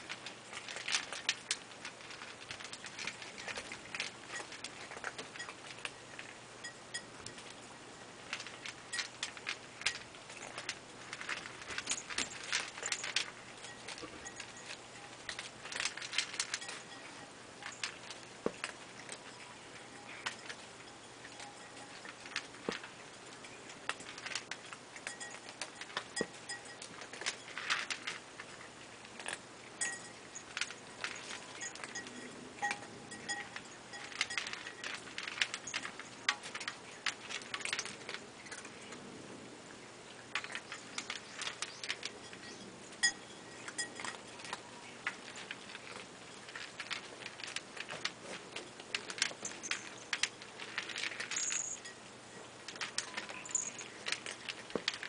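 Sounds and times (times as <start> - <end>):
cats eating from dish: 0.0 - 55.0.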